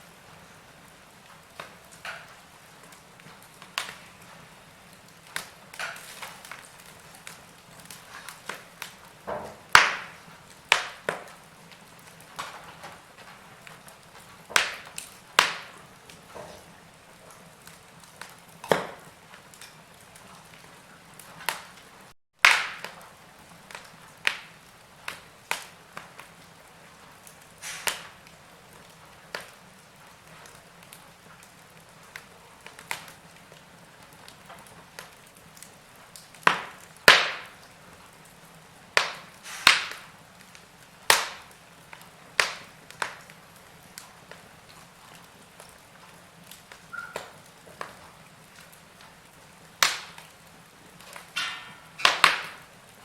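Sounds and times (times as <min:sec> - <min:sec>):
low hiss of fire: 0:00.0 - 0:53.0
wood fire crackling: 0:00.0 - 0:53.0.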